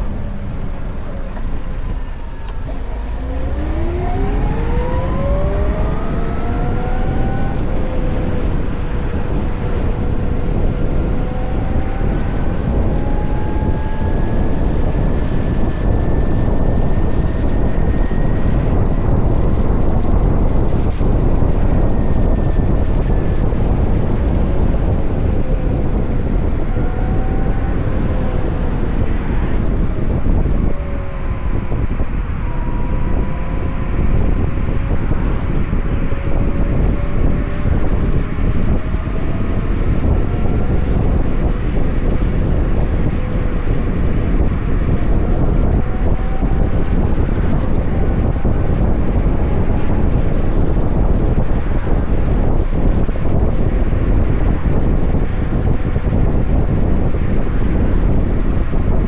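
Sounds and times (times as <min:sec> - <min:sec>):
electric motorcycle motor whine: 0:00.0 - 0:59.0
wind and road noise: 0:00.0 - 0:59.0.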